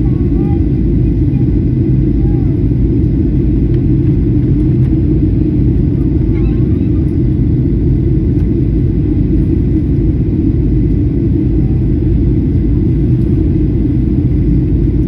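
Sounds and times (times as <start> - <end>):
airliner engine rumble: 0.0 - 15.0.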